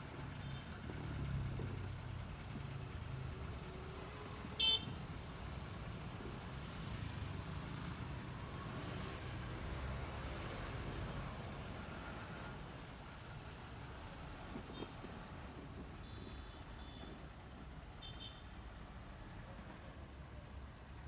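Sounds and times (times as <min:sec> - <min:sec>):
wind and road noise: 0:00.0 - 0:19.6.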